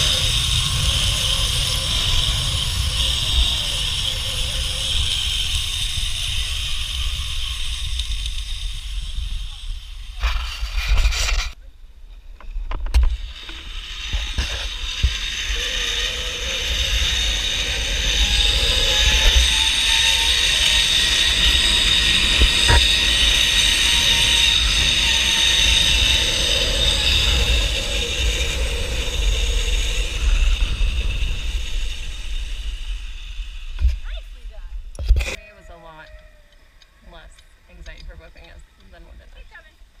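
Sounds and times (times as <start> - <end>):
wind rumble on microphone: 0.0 - 11.6, 12.4 - 35.4
zip-line pulleys whirring on cable: 0.0 - 11.6, 12.7 - 39.6.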